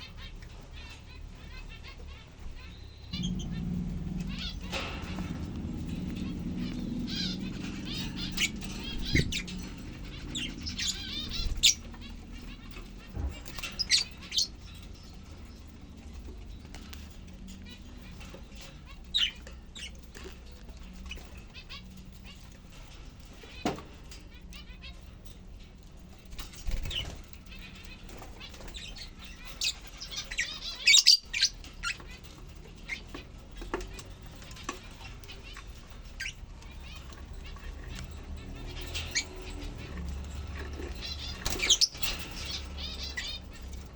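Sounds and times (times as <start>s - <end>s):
lovebirds chirping: 0.0s - 43.9s
low steady hum: 0.0s - 43.9s.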